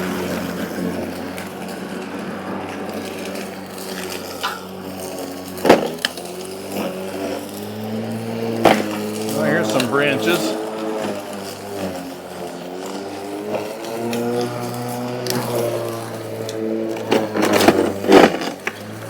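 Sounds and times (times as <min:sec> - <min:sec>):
electric lawn mower humming: 0:00.0 - 0:19.0.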